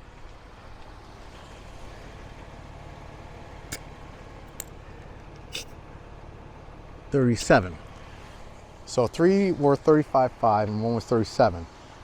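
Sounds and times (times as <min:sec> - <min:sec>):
vehicle engine hum: 0:00.0 - 0:10.4.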